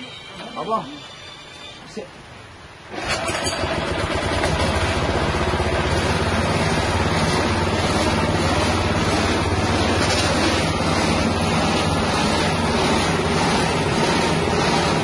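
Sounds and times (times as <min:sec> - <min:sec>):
small petrol engine running: 0:02.9 - 0:15.0.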